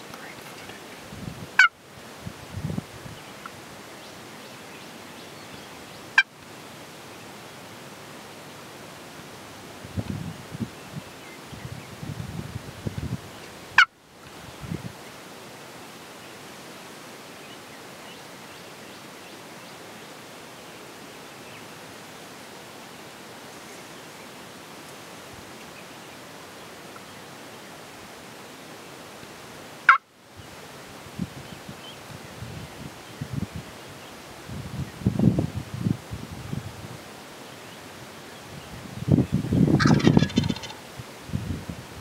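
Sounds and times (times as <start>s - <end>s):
faint outdoor hiss: 0.0s - 42.0s.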